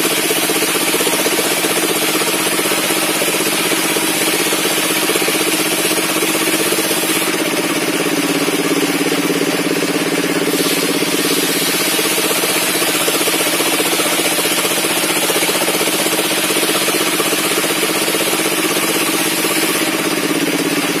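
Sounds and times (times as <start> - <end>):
circular saw bench droning: 0.0 - 21.0.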